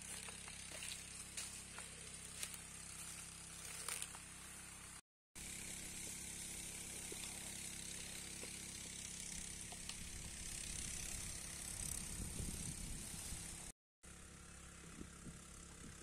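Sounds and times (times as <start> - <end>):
hose water spraying: 0.0 - 13.7
low mechanical hum: 0.0 - 16.0.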